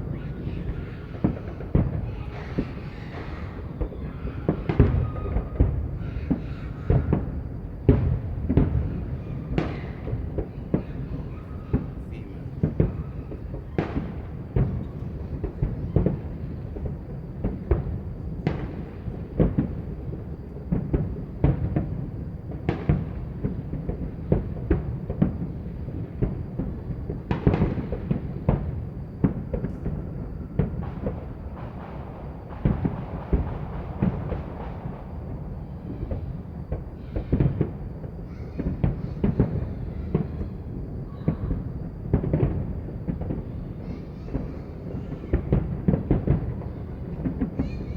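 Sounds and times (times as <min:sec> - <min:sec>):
fireworks and firecrackers banging: 0:00.0 - 0:47.9.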